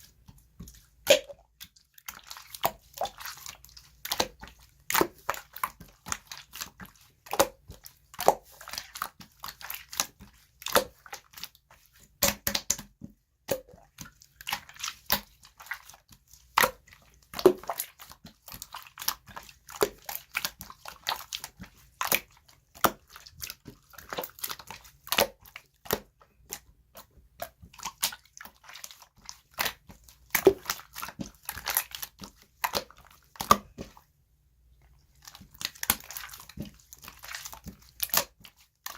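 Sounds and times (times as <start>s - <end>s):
slime squished by hand: 0.1s - 34.1s, 35.0s - 38.9s.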